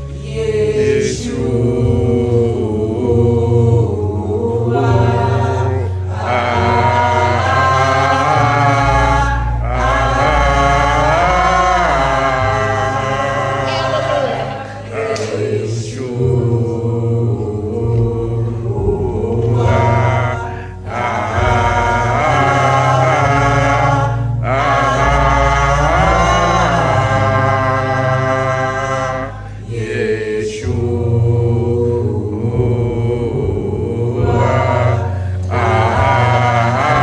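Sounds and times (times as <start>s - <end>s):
instrumental accompaniment with bass: 0.0s - 37.0s
voices singing gospel song: 0.0s - 37.0s.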